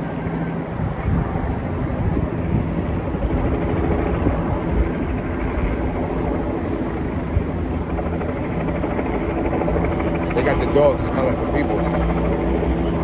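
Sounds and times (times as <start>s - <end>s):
steady engine drone: 0.0s - 13.0s.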